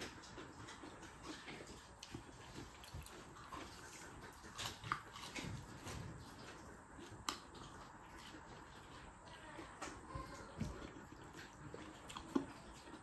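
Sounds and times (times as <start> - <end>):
faint chewing and mouth sounds: 0.0 - 13.0.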